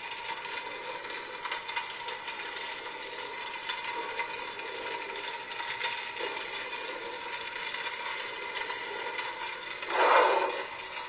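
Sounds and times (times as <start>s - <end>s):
lightsaber hum with crackling: 0.0s - 11.0s.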